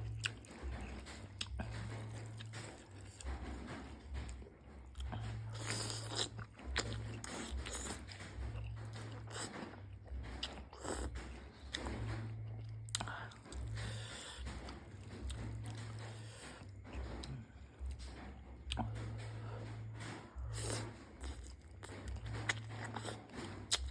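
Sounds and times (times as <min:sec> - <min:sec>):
person chewing food: 0:00.0 - 0:23.9.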